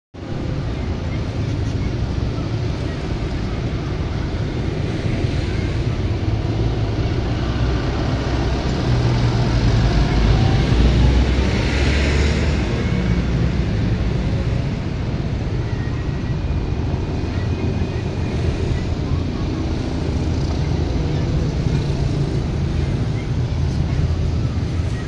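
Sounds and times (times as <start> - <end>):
passing cars and motorcycles: 0.2 - 25.0.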